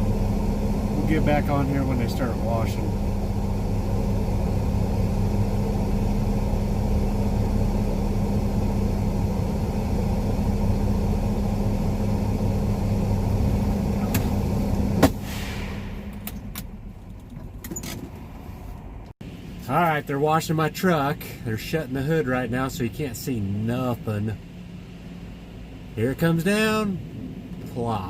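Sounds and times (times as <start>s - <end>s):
diesel truck engine idling: 0.0s - 17.6s, 18.2s - 28.0s.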